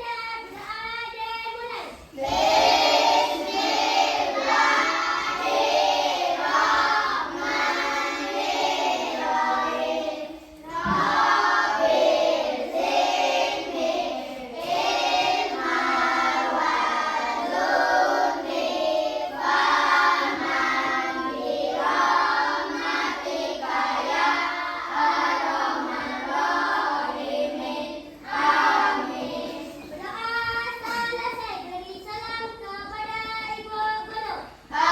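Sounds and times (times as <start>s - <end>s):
children singing in unison: 2.1s - 31.4s.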